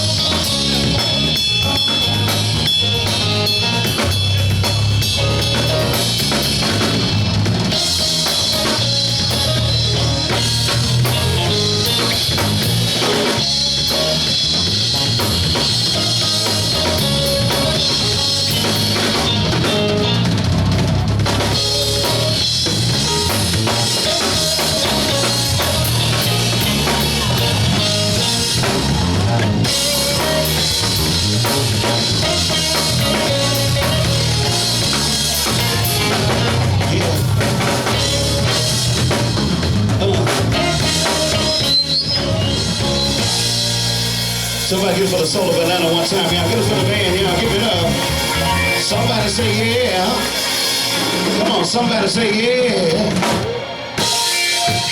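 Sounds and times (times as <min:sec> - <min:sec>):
bass guitar: 0:00.0 - 0:54.9
live soul band playing: 0:00.0 - 0:54.9.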